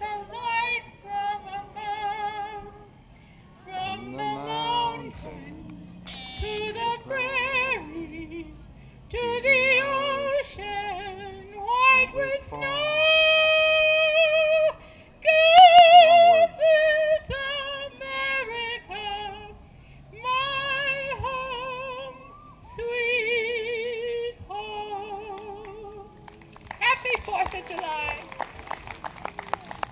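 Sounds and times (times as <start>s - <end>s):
woman singing with vibrato: 0.0s - 26.2s.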